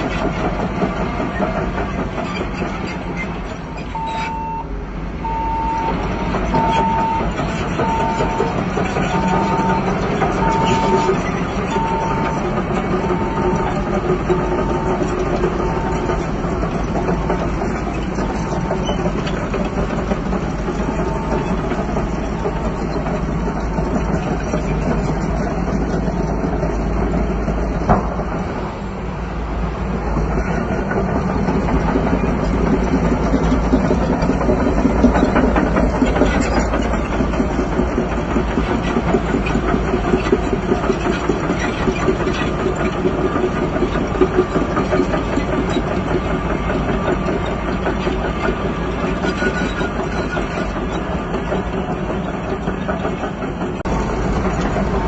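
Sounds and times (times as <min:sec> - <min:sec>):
bulldozer diesel engine running: 0:00.0 - 0:55.0
metallic clatter of steel tracks: 0:00.0 - 0:55.0.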